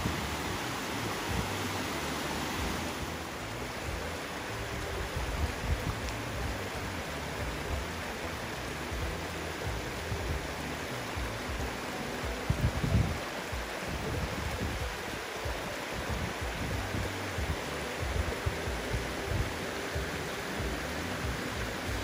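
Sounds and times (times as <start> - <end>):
creek water rushing over rocks: 0.0 - 22.0
low rumble on microphone: 0.0 - 22.0.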